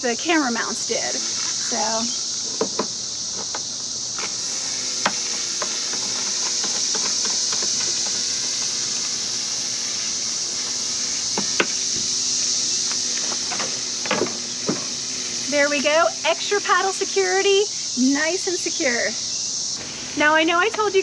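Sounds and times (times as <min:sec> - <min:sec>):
high insect chorus: 0:00.0 - 0:21.0.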